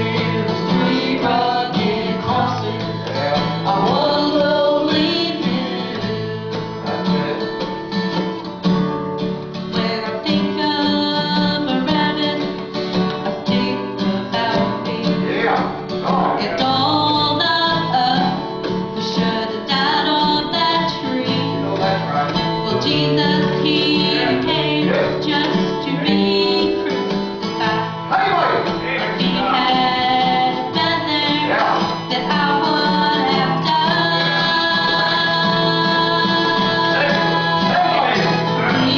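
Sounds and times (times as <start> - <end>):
acoustic gospel guitar music: 0.0 - 38.9.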